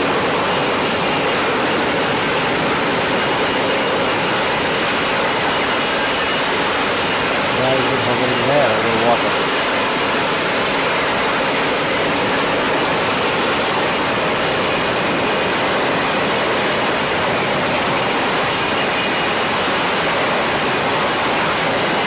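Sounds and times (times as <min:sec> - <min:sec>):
jet engine rushing: 0:00.0 - 0:22.0.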